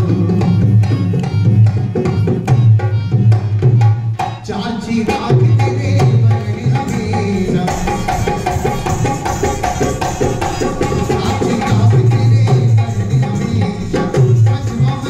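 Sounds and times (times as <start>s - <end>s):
folk music: 0.0s - 15.0s
hand drum quick rhythm: 0.0s - 15.0s.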